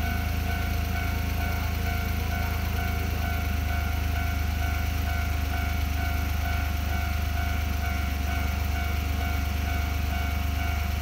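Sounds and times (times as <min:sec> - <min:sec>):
low engine idle: 0:00.0 - 0:11.0.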